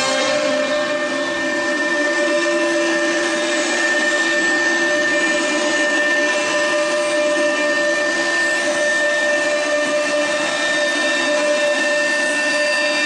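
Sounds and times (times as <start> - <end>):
router spindle whine cutting wood: 0.0 - 13.0.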